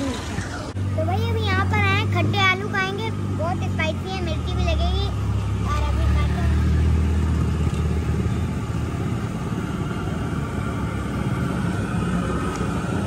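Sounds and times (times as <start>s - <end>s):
faint street sounds: 0.0s - 13.0s
street traffic rumble: 0.0s - 13.0s.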